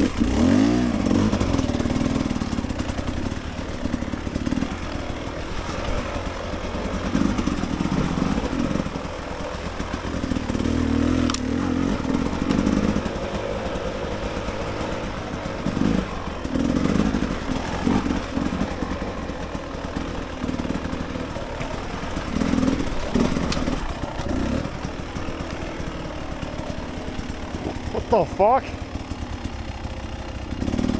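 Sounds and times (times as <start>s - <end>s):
dirt bike engine surging: 0.0s - 30.9s.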